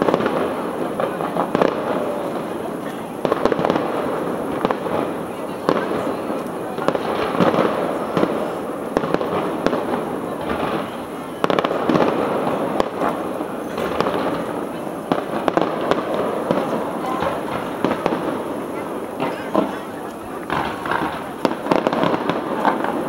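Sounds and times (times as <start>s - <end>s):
crackling rumble: 0.0s - 23.0s
firework bangs: 0.0s - 23.0s.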